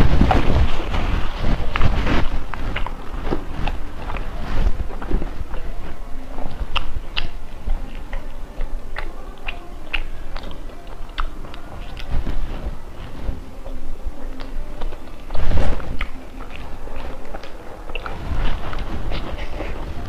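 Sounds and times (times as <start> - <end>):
person chewing bread: 0.0 - 20.0.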